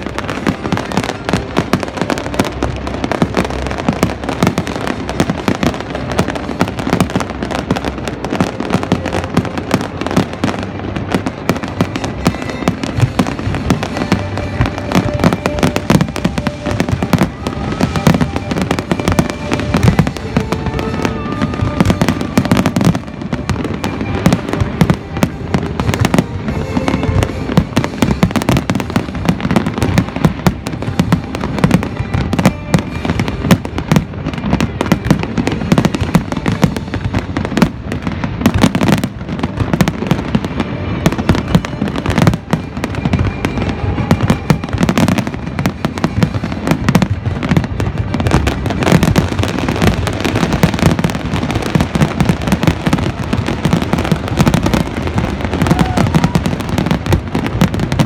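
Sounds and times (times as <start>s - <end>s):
firework bangs and crackling: 0.0s - 58.0s.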